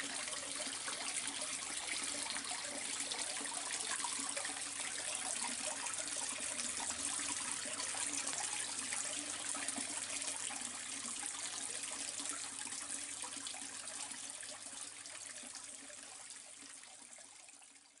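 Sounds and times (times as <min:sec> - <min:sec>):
water splashing into pond: 0:00.0 - 0:17.1.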